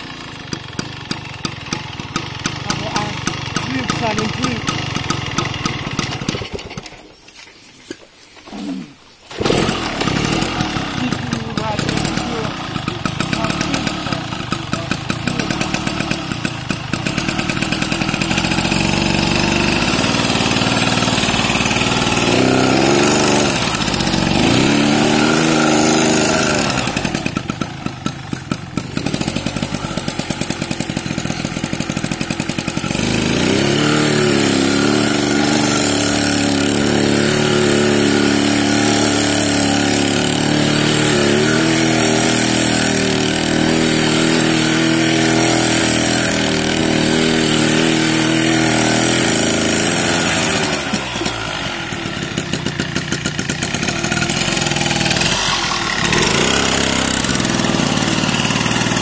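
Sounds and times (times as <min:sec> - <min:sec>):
motorcycle engine revving: 0:00.0 - 0:07.0, 0:08.6 - 0:59.0.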